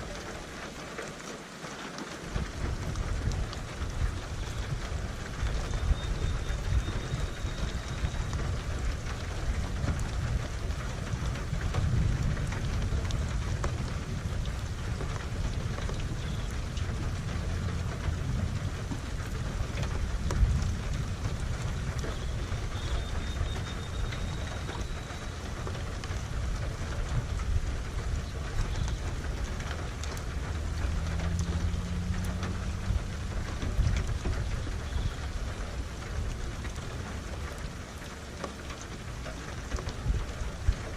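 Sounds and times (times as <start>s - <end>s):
rain falling: 0.0s - 40.9s
thunder rumbling: 2.3s - 40.9s.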